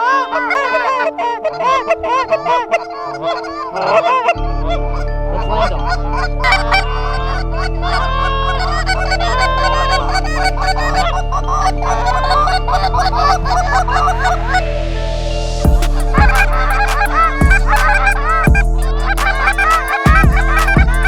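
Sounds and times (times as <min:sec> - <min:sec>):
geese honking: 0:00.0 - 0:14.7, 0:15.7 - 0:21.0
background music with low bass: 0:00.0 - 0:21.0.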